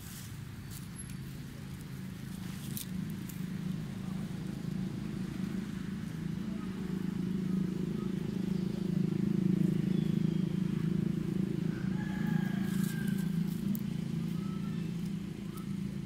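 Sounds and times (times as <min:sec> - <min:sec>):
rustle of dry leaves: 0:00.0 - 0:16.0
low hum: 0:01.8 - 0:16.0.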